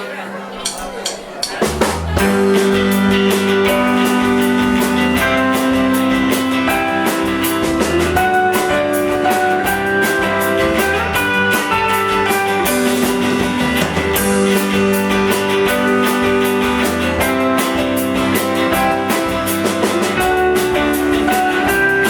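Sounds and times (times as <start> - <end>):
steady drum beat: 0.6 - 22.0
electric guitar chords: 0.7 - 22.0.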